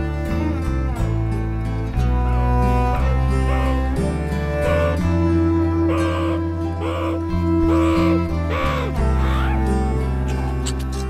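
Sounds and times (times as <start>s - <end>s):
instrumental music with plucked strings: 0.0s - 11.0s.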